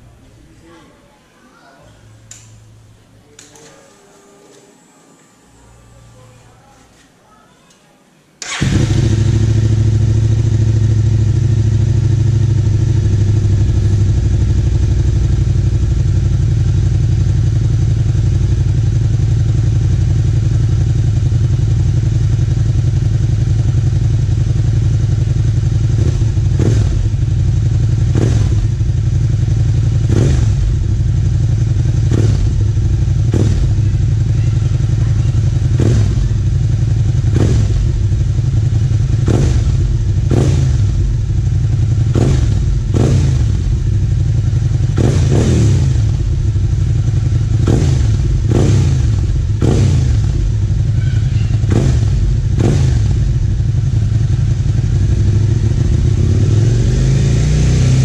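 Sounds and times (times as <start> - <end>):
motorcycle engine idling: 8.4 - 57.1.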